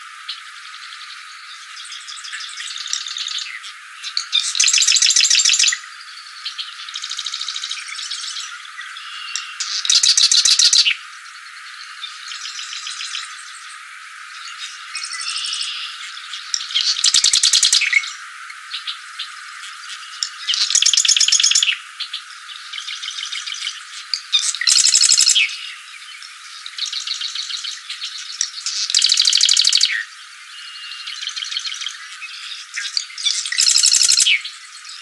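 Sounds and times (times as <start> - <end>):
marsh wren singing: 0.0 - 35.0.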